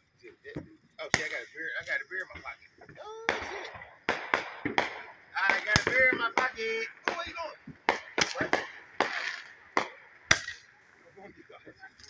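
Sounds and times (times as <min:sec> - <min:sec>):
fireworks bangs and pops: 0:00.2 - 0:11.3.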